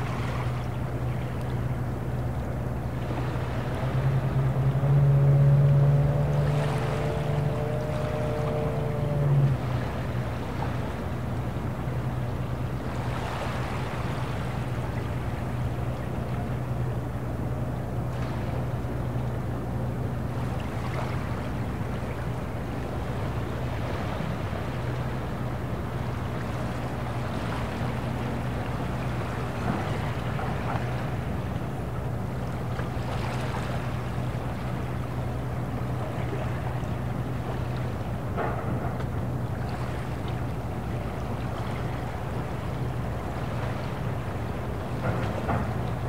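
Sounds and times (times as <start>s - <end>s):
boat engine drone: 0.0s - 46.0s
water splashes: 2.2s - 16.8s, 20.3s - 46.0s.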